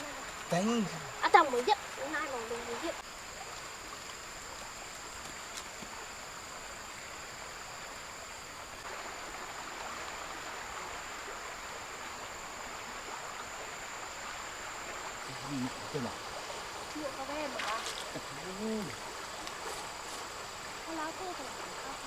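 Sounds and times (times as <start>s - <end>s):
flowing river water: 0.0s - 22.0s.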